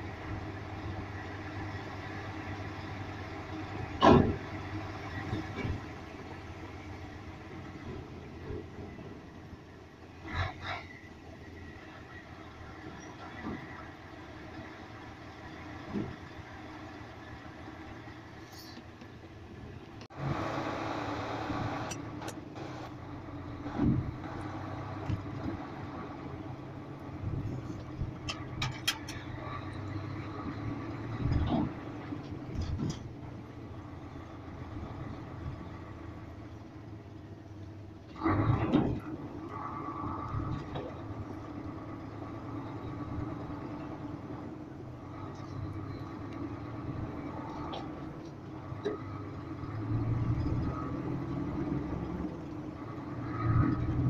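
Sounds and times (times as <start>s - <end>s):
diesel engine running low speed: 0.0s - 54.0s.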